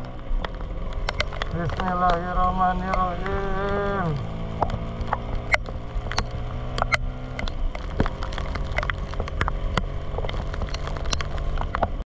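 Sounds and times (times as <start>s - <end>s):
raindrops ticking on camera: 0.0s - 12.0s
scooter two-stroke engine running: 0.0s - 12.0s.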